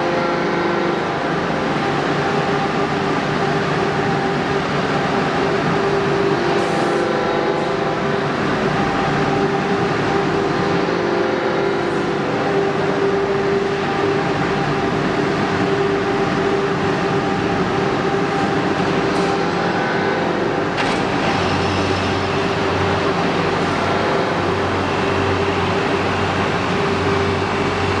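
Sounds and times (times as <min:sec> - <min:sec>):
air conditioner fan rushing: 0:00.0 - 0:28.0
humming tone: 0:00.0 - 0:28.0.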